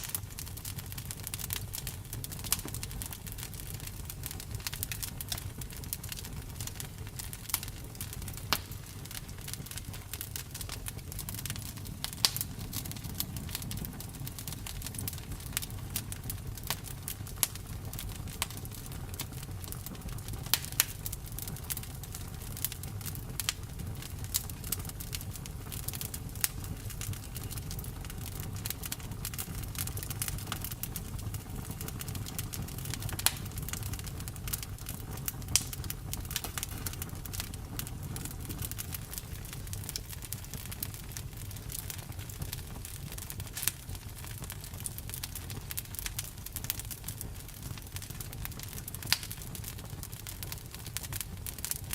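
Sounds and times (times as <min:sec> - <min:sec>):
campfire crackles and pops: 0:00.0 - 0:51.9
low rumble of flames: 0:00.0 - 0:51.9.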